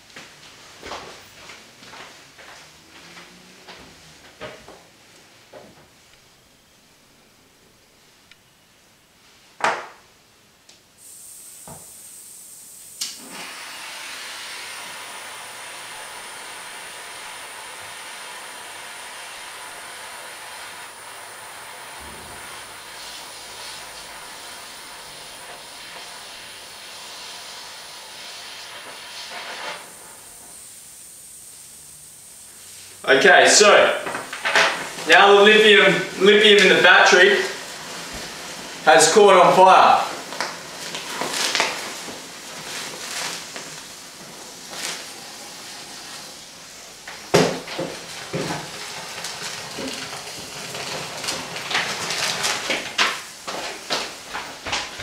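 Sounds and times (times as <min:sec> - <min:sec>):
gas torch hissing: 0:10.9 - 0:55.0.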